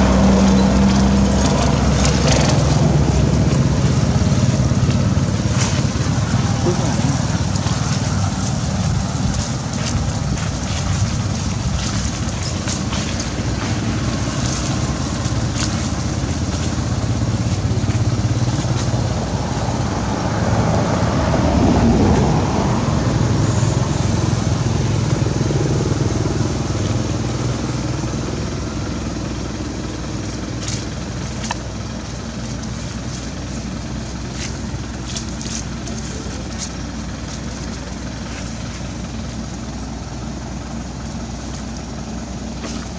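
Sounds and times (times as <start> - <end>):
engine low rumble: 0.0 - 42.9.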